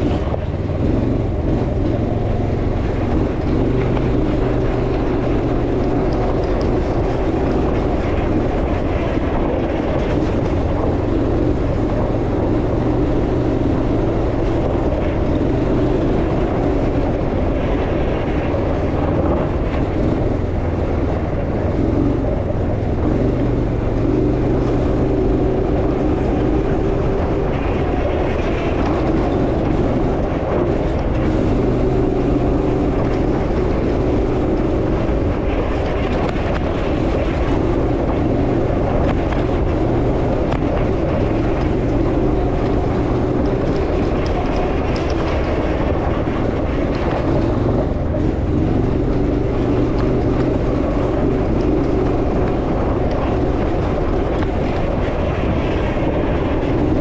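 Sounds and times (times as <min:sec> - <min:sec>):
buggy engine running: 0:00.0 - 0:57.0
rattling over rough ground: 0:00.0 - 0:57.0.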